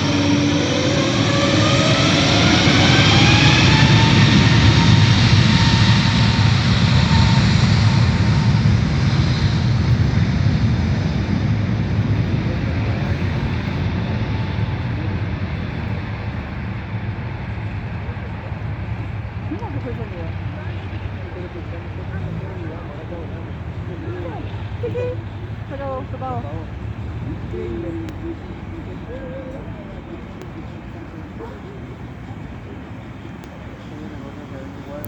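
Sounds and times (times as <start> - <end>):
jet engines spooling up: 0.0 - 35.0.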